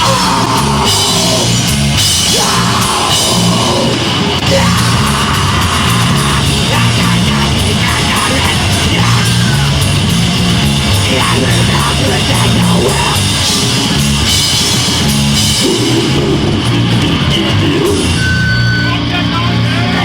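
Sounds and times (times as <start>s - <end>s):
bass guitar: 0.0s - 20.0s
distorted guitars: 0.0s - 20.0s
fast drums: 0.0s - 20.0s.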